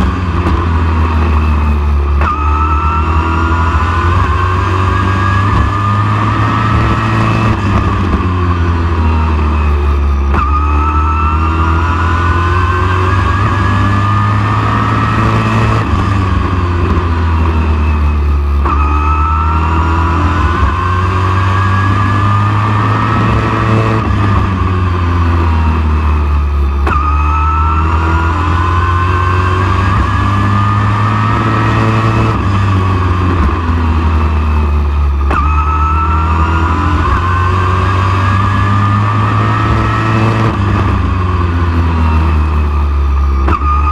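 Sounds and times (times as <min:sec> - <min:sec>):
race truck engine accelerating: 0:00.0 - 0:43.9.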